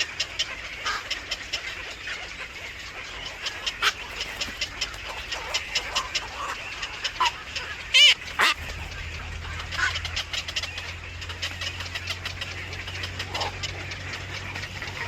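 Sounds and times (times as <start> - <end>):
bird calling loudly: 0.0 - 15.0
low steady hum: 0.0 - 15.0
young birds chirping: 0.0 - 15.0.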